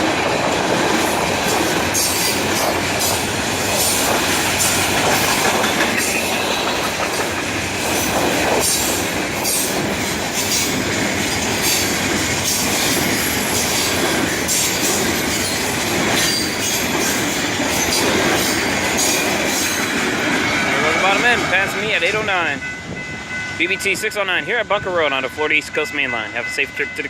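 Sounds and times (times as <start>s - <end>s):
wheels clicking over rail joints: 0.0s - 22.2s
train wheels rumbling on rail: 0.0s - 27.0s.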